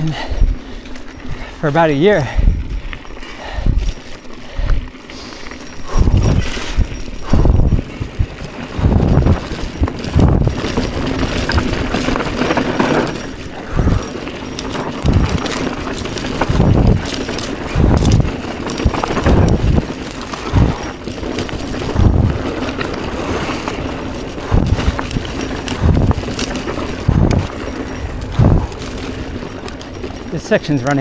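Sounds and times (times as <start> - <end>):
mountain bike rattling: 0.0 - 31.0
wheels thudding over bumps: 0.0 - 31.0.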